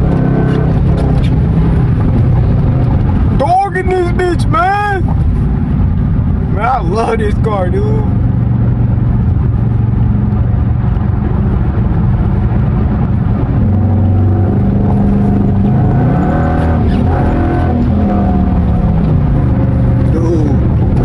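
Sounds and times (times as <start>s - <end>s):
car engine loud steady drone: 0.0s - 21.0s.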